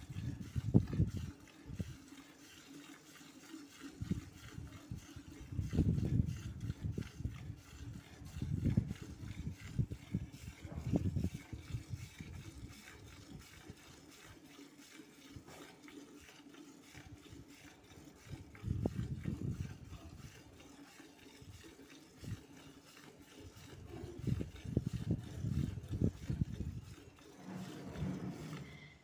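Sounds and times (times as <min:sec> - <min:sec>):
milk squirting into metal bucket: 0:00.0 - 0:29.0.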